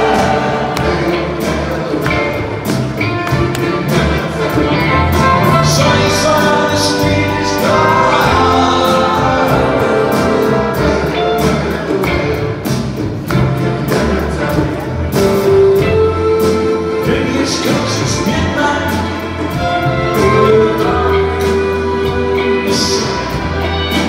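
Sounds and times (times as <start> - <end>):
live rock band with strings: 0.0 - 24.0.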